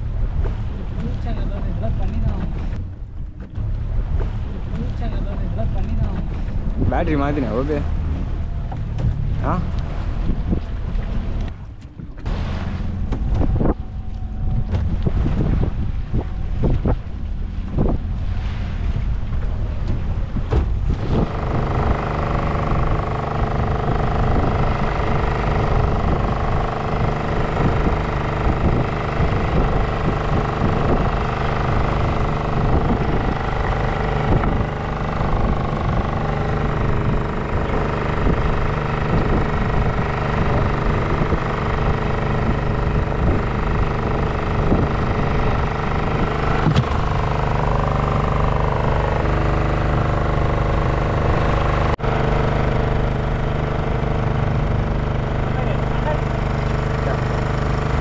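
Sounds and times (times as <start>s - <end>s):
boat engine running: 0.0s - 58.0s
wind and sea noise: 0.0s - 58.0s.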